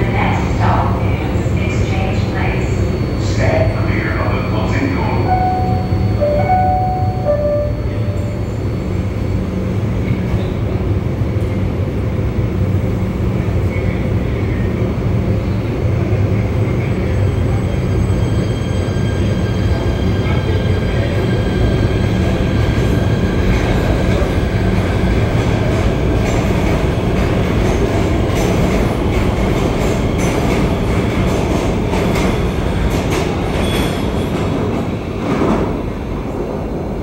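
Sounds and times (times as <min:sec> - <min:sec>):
subway train motor whine: 0:00.0 - 0:32.7.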